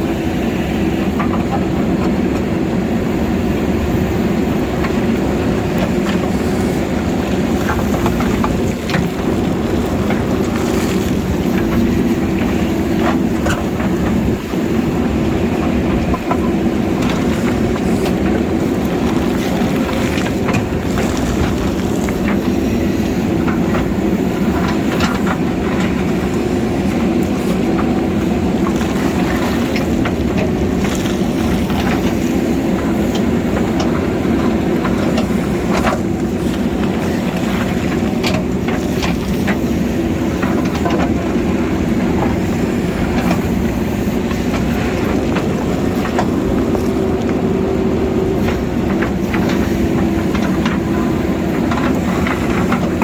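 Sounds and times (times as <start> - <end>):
diesel engine running under load: 0.0 - 53.0
bucket clanking on rock: 4.8 - 53.0.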